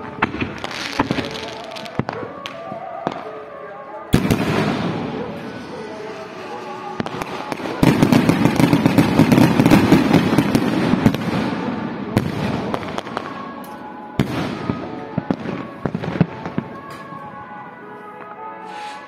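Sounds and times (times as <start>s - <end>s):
faint music: 0.0s - 19.0s
fireworks bangs and crackles: 0.0s - 19.0s.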